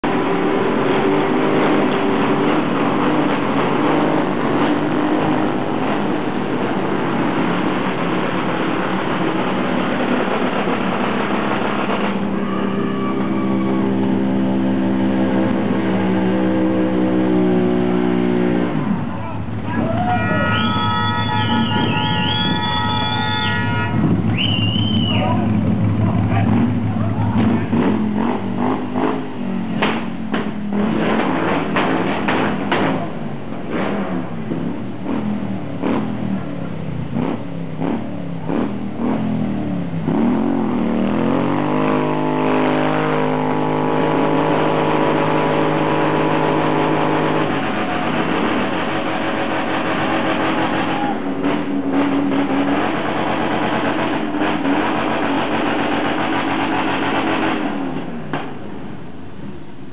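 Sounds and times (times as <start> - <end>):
motorcycle engine revving: 0.0 - 19.9, 20.6 - 58.8.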